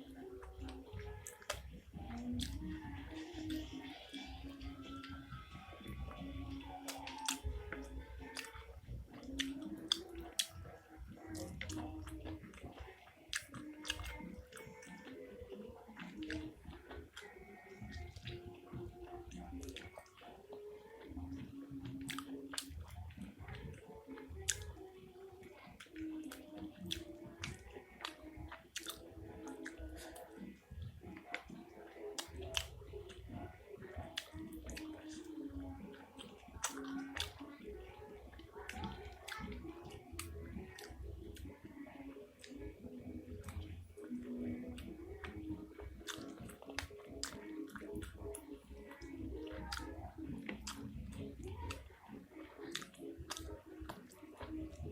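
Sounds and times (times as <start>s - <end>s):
mouth clicks and smacks: 0.0s - 54.9s
wet chewing: 0.0s - 54.9s.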